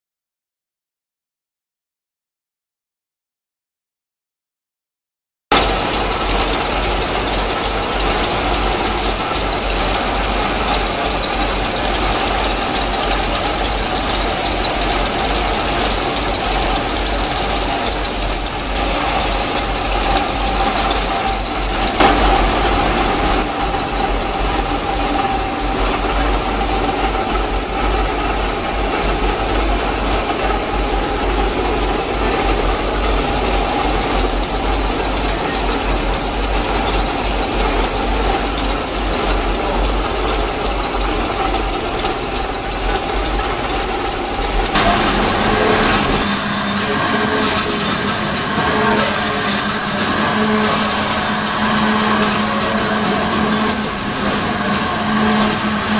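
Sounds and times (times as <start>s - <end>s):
machinery hum with whine: 5.5s - 55.9s.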